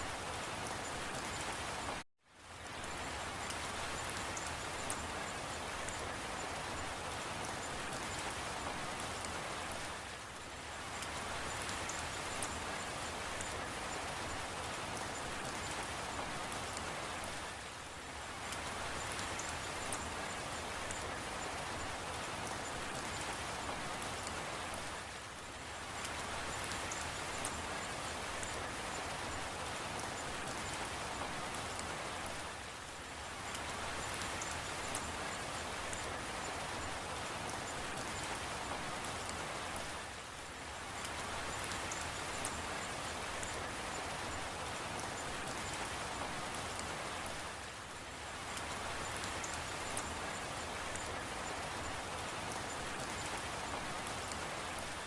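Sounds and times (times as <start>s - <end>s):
raindrop ticks: 3.4s - 9.9s, 11.0s - 17.4s, 18.4s - 24.8s, 25.4s - 40.0s, 40.7s - 47.5s, 48.3s - 55.0s.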